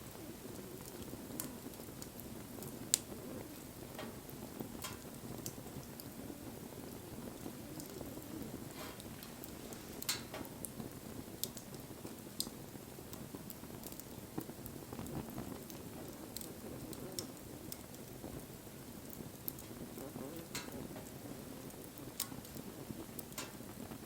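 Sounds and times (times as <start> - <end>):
fire crackles and pops: 0.0 - 24.0
flame rushing: 0.0 - 24.0.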